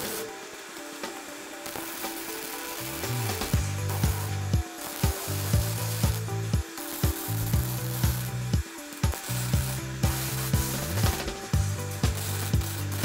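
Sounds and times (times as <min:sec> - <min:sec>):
background music with beat: 0:00.0 - 0:13.0
welding arc crackling and sizzling: 0:00.0 - 0:13.0.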